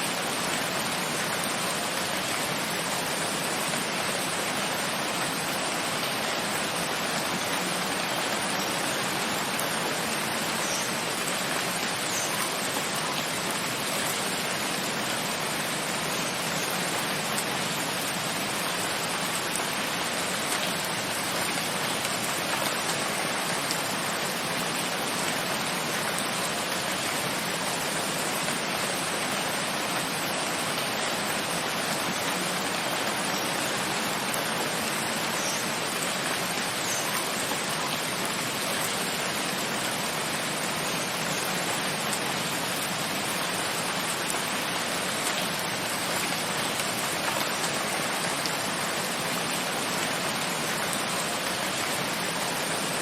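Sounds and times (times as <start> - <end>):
steady rain hissing: 0.0 - 53.0.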